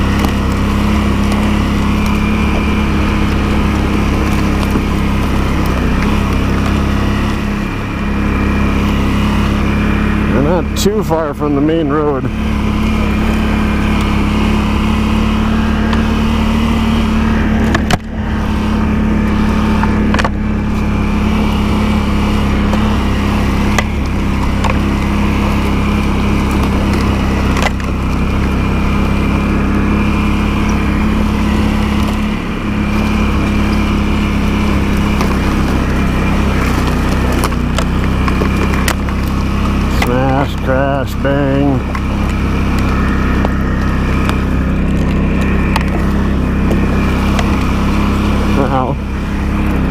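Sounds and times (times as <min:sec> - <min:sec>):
branches snapping and cracking: 0:00.0 - 0:07.3, 0:12.8 - 0:40.7, 0:41.4 - 0:49.9
atv engine running: 0:00.0 - 0:49.9.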